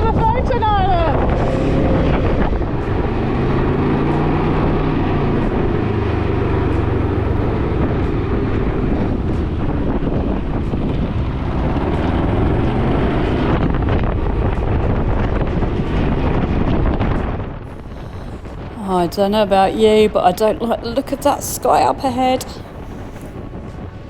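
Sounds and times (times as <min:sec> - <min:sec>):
vehicle engine running: 0:00.0 - 0:20.1
wind noise on microphone: 0:00.0 - 0:24.0.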